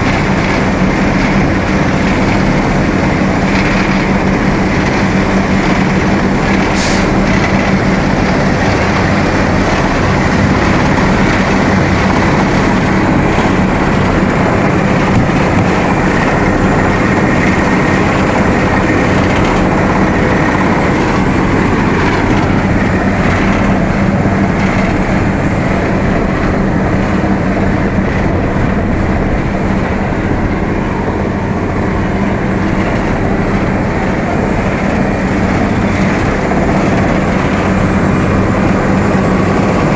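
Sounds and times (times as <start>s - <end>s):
paver machine mechanical drone: 0.0s - 39.9s.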